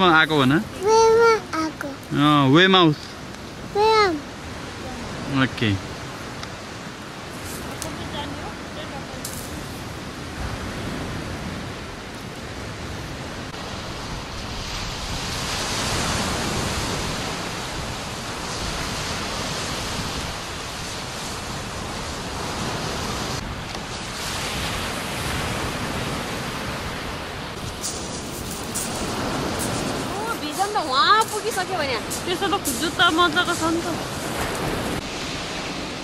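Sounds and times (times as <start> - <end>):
waves breaking on shingle beach: 0.0 - 36.0.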